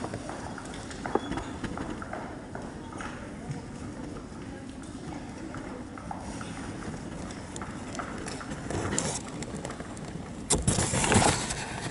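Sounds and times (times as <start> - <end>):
dance shoes clicking on floor: 0.0 - 10.6.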